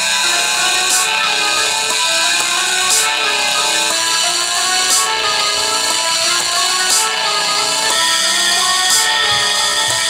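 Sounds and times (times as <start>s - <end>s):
held synth notes: 0.0s - 10.0s.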